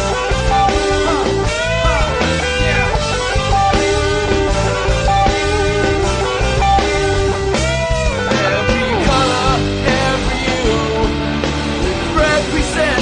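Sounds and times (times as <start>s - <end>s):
lead guitar bent notes: 0.0s - 12.5s
bass line: 0.0s - 13.0s
drums: 0.0s - 13.0s.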